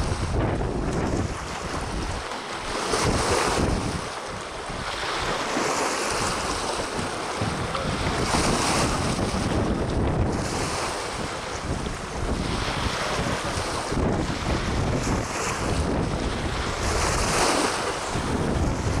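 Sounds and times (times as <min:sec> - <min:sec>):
water lapping against boat hull: 0:00.0 - 0:19.0
wind buffeting microphone: 0:00.0 - 0:19.0.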